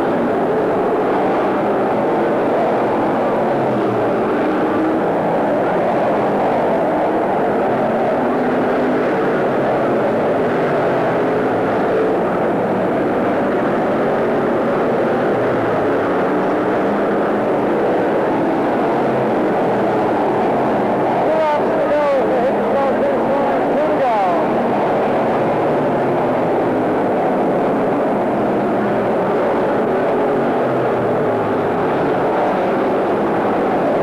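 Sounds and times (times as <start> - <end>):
race car engines droning: 0.0 - 34.0.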